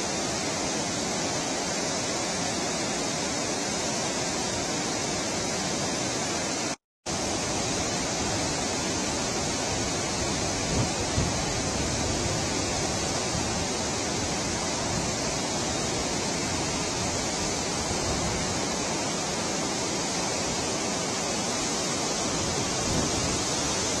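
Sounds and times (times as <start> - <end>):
water rushing through dam gates: 0.0 - 24.0.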